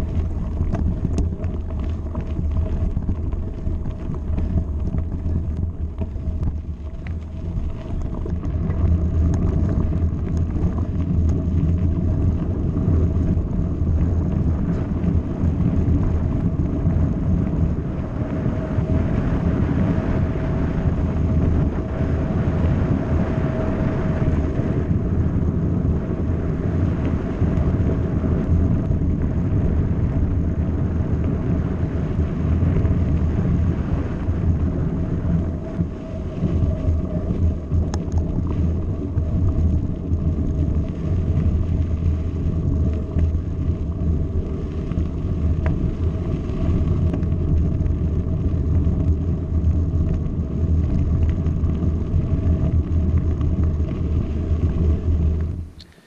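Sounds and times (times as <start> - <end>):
faint steady whine: 0.0 - 56.0
wind buffeting microphone: 0.0 - 56.0.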